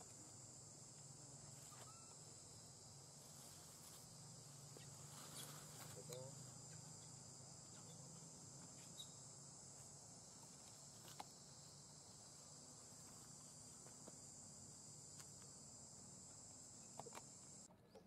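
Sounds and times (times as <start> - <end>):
high-pitched insect chorus: 0.0 - 17.7.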